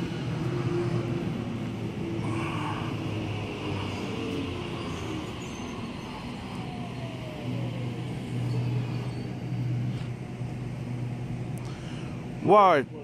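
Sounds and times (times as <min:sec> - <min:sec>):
falling whine: 0:00.0 - 0:12.4
electric train hum: 0:00.0 - 0:13.0.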